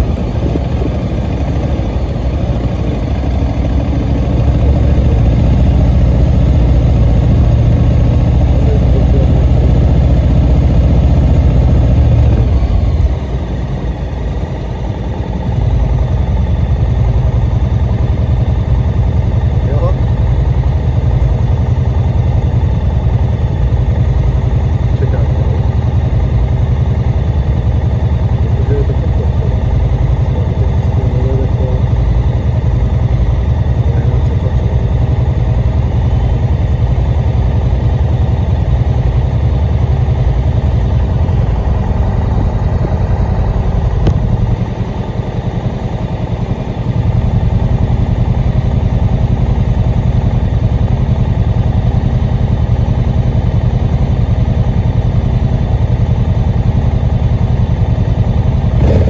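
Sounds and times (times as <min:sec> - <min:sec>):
vehicle engine low rumble: 0:00.0 - 0:59.0.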